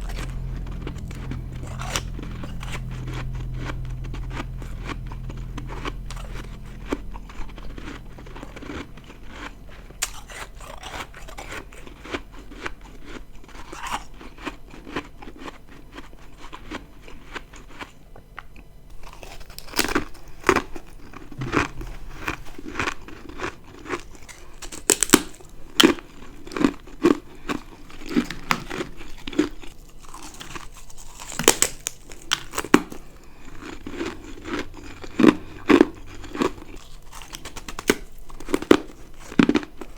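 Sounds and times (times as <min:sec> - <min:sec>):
ice crunching between teeth: 0:00.0 - 0:18.0, 0:19.0 - 0:39.9.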